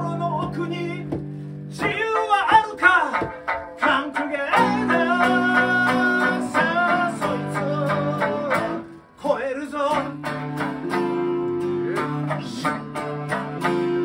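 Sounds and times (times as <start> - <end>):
man singing: 0.0 - 10.6, 11.4 - 14.0
acoustic guitars: 0.0 - 14.0.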